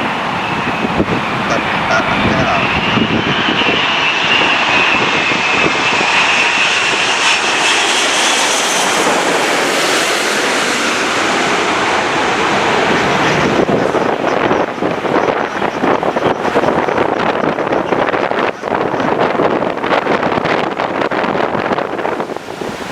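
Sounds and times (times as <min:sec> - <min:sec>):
jet airliner engines passing: 0:00.0 - 0:22.9
wind buffeting microphone: 0:00.0 - 0:22.9.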